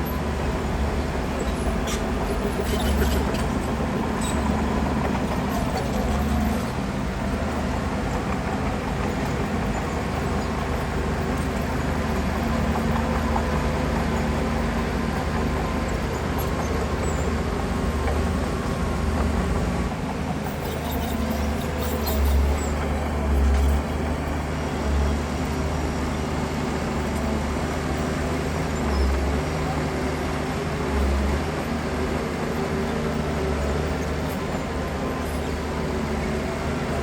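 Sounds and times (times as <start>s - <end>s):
heavy diesel engine under load: 0.0s - 37.0s.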